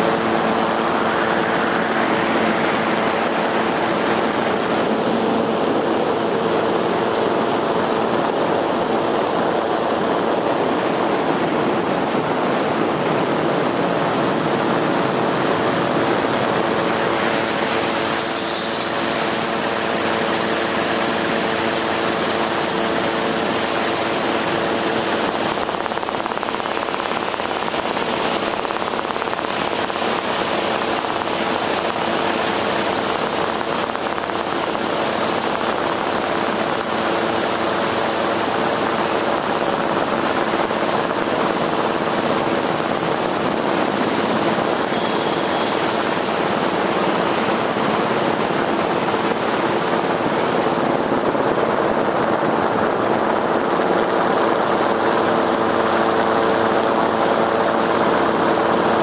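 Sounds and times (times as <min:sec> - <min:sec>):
rushing air noise: 0:00.0 - 0:54.6
aircraft engine drone: 0:00.0 - 0:59.0.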